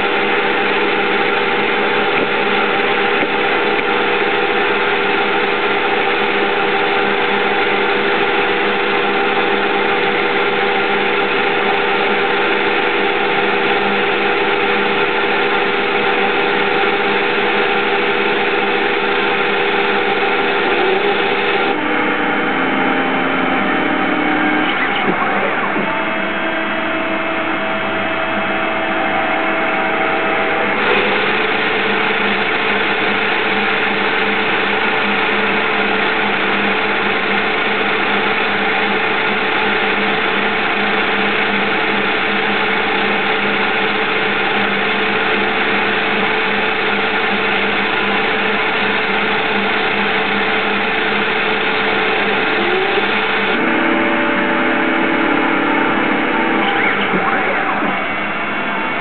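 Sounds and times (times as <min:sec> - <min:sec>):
lathe cutting metal whirring: 0:00.0 - 0:59.0.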